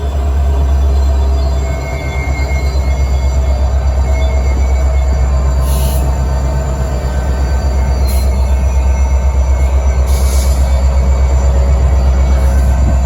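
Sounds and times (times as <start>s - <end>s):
train rumbling past: 0.0s - 13.0s
wheels squealing on rails: 0.0s - 13.0s.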